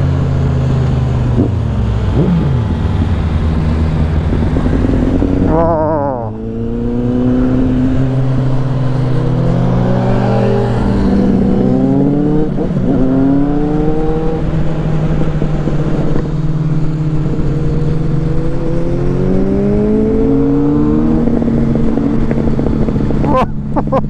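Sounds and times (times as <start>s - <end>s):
motorcycle engine under throttle: 0.0s - 23.8s
wind rushing: 2.1s - 23.2s.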